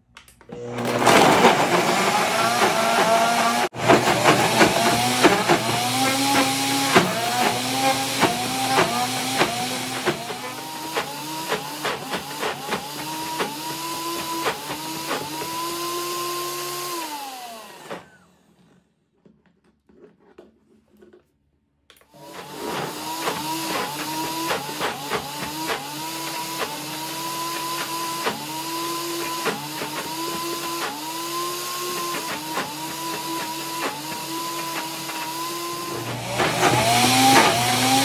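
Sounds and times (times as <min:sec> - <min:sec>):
blender motor whining: 0:00.5 - 0:18.8, 0:22.1 - 0:38.0.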